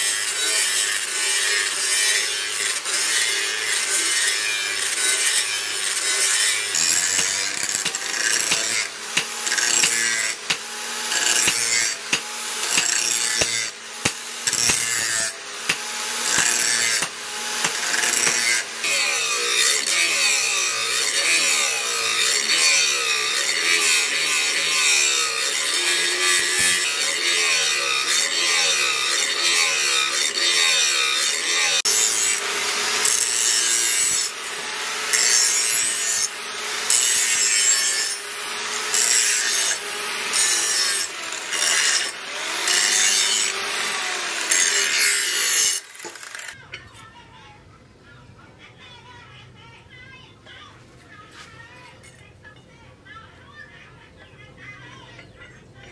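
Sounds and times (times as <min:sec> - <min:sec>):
angle grinder grinding metal: 0:00.0 - 0:46.6.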